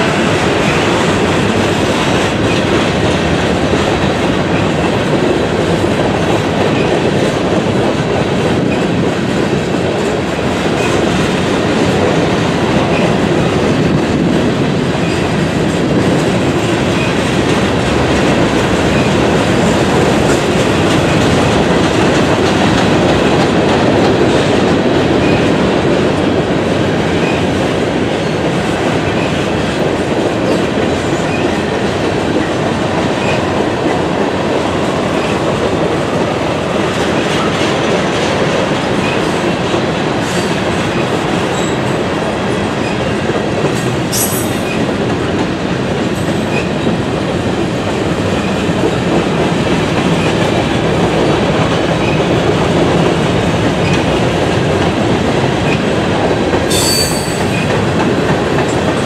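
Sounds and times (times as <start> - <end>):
rail clicks: 0.0 - 59.0
railroad cars rumbling and rattling: 0.0 - 59.0.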